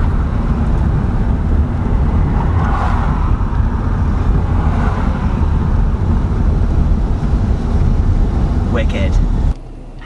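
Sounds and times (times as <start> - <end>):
car road noise: 0.0 - 10.0.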